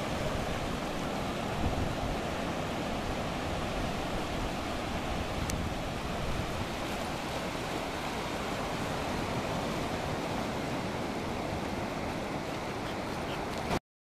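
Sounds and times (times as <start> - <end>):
ocean surf washing onto beach: 0.0 - 13.8.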